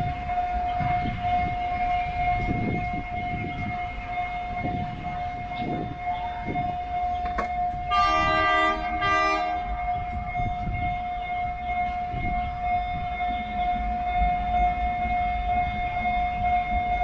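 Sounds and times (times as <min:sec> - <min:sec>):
locomotive horn: 0:00.0 - 0:17.0
train rumbling: 0:00.0 - 0:17.0.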